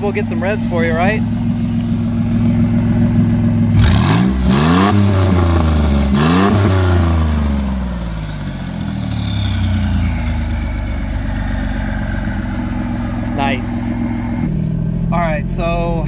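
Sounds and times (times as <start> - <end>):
car engine revving from idle: 0.0 - 15.6.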